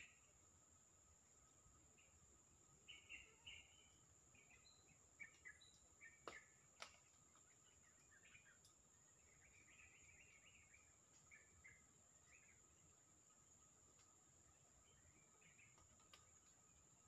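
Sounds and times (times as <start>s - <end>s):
faint bird chirps: 0.0s - 0.4s, 1.3s - 17.0s.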